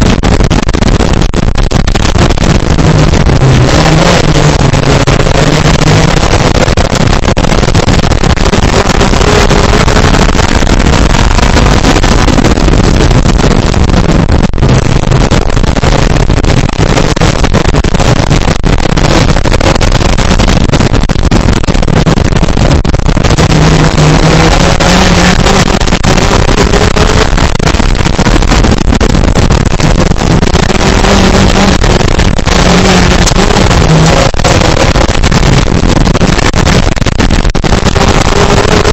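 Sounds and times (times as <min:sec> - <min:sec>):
buggy engine revving: 0:00.0 - 0:38.9
wind and running gear noise: 0:00.0 - 0:38.9.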